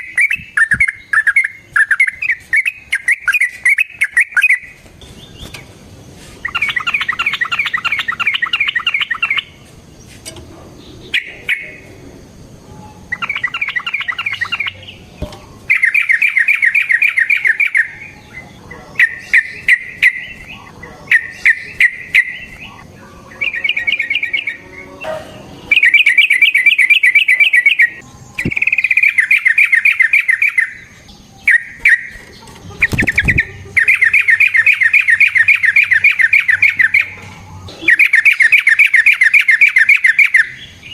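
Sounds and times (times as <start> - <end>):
bulbul singing: 0.0 - 5.8, 6.4 - 40.9.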